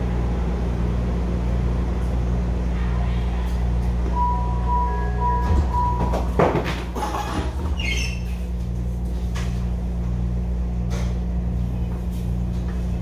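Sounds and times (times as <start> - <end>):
steady low railcar hum: 0.0 - 13.0.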